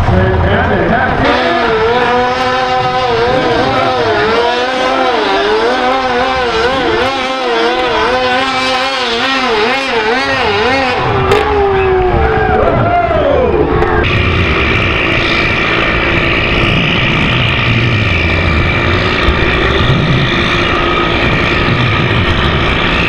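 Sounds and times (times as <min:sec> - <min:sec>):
high-revving engine under load: 0:00.0 - 0:23.0.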